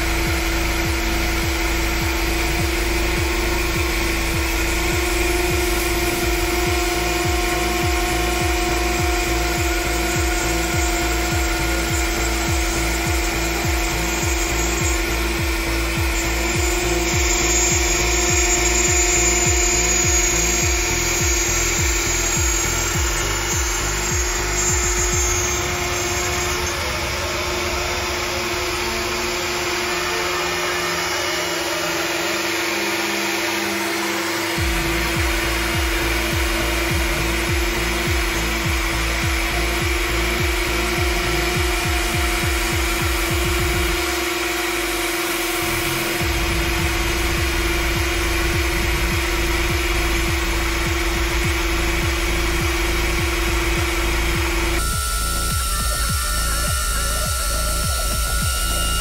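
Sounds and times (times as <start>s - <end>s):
router bit milling sheet: 0.0s - 59.0s
router whine: 0.0s - 59.0s.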